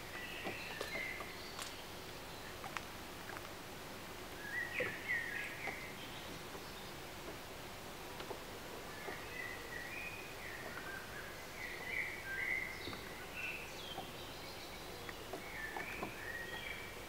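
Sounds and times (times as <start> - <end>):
songbirds singing: 0.0 - 3.6, 4.2 - 17.0
steady background hiss: 0.0 - 17.0.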